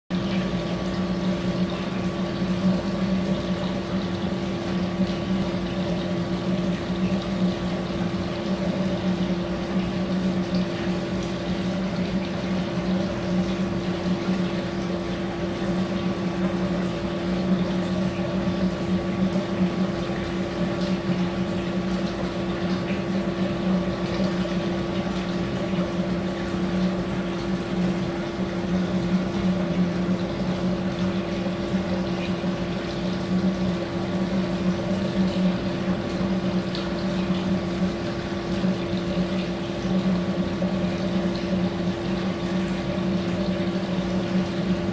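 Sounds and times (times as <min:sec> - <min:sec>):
air bubbles streaming in water: 0:00.1 - 0:44.9.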